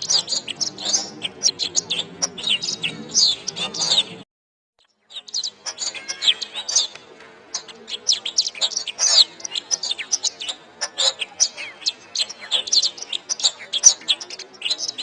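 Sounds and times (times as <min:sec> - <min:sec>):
canary singing: 0:00.0 - 0:04.2, 0:04.8 - 0:15.0.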